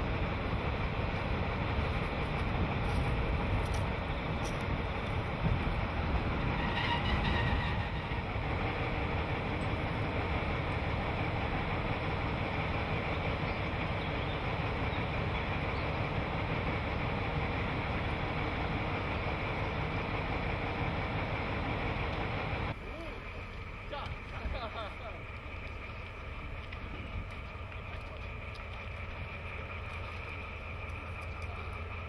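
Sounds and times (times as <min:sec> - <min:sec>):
diesel locomotive engine running: 0:00.0 - 0:32.0.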